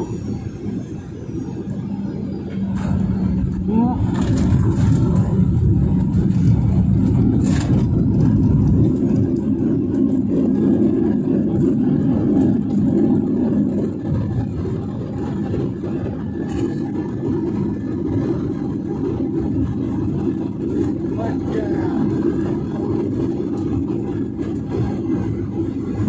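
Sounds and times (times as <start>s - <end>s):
jet engines and runway rumble: 0.0s - 26.0s.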